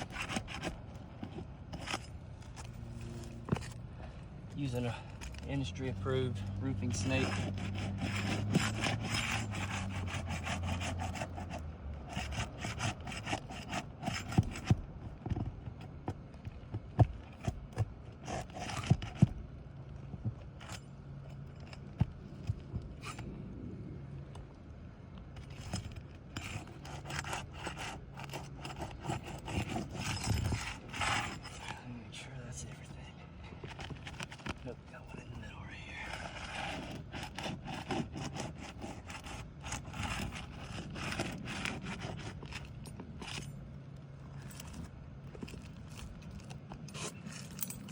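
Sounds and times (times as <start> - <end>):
tool scraping under roof shingles: 0.0 - 23.5, 25.3 - 31.9, 33.4 - 35.2, 36.0 - 47.9.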